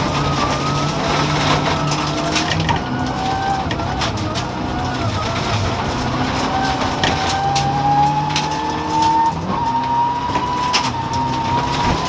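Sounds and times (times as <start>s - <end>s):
gravel clattering against car: 0.0s - 12.0s
rally car engine revving: 0.0s - 12.0s.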